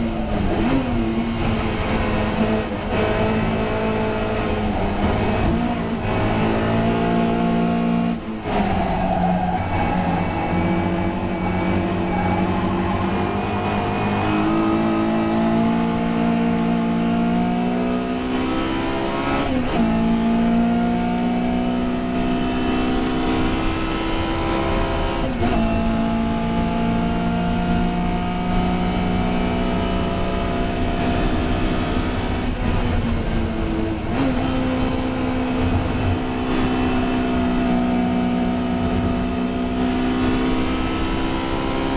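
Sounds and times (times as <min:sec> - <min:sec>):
race car engine pulling hard: 0:00.0 - 0:41.9.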